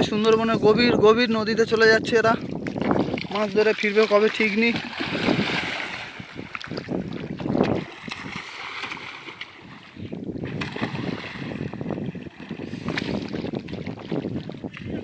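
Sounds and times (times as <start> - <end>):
river water splashing: 2.4 - 15.0.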